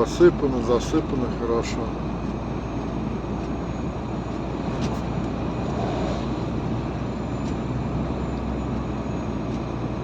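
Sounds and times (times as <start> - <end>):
road noise: 0.0 - 10.0
truck engine drone: 0.0 - 10.0.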